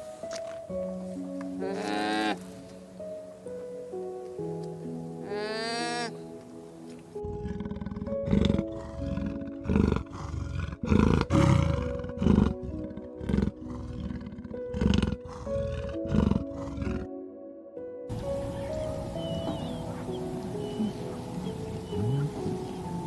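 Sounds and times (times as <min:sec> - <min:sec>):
soft background music: 0:00.0 - 0:23.0.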